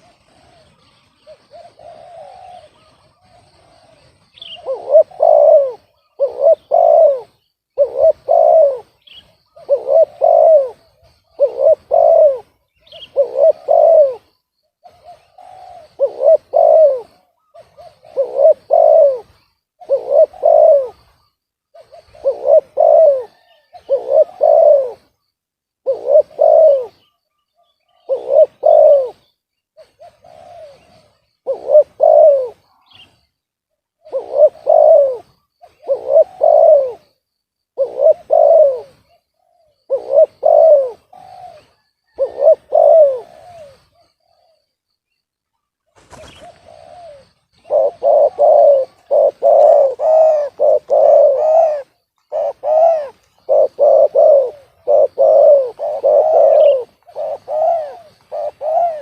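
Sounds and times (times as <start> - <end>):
dove cooing: 0.0 - 44.9, 45.6 - 59.0
faint high bird chirps: 0.0 - 59.0.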